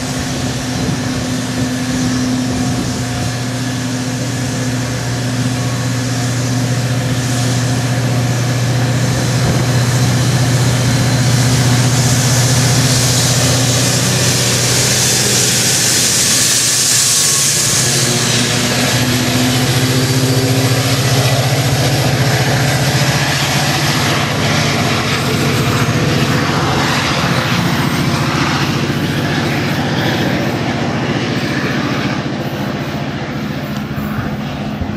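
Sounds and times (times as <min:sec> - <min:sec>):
hiss: 0:00.0 - 0:34.7
diesel locomotive drone: 0:00.0 - 0:34.9
train coaches rolling by: 0:00.0 - 0:34.9.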